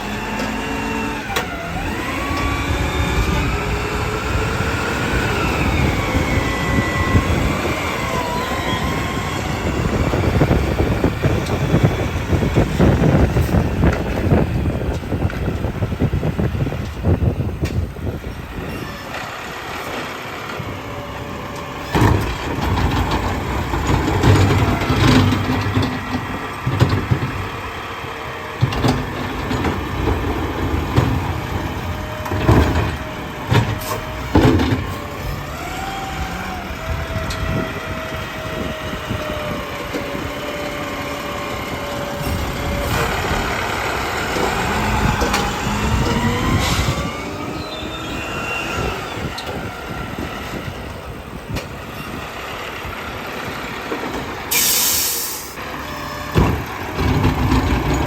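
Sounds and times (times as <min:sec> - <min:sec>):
load clanking and banging: 0:00.0 - 0:27.9, 0:28.5 - 0:40.9, 0:41.7 - 0:52.2, 0:53.3 - 0:58.0
garbage truck engine running: 0:00.0 - 0:58.0
hydraulic whine: 0:00.0 - 0:58.0.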